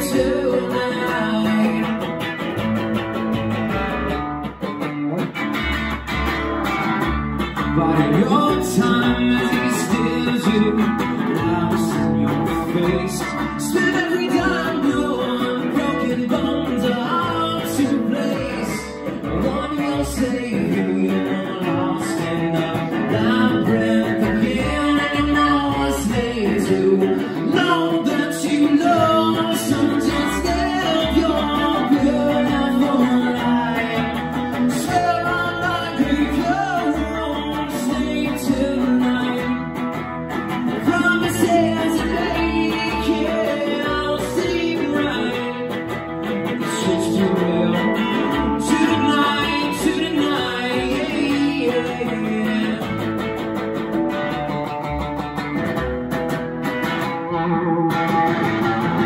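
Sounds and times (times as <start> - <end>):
man singing: 0.0 - 2.7, 7.6 - 39.9, 40.5 - 54.6
plucked double bass: 0.0 - 59.0
strummed electric guitar: 0.0 - 59.0.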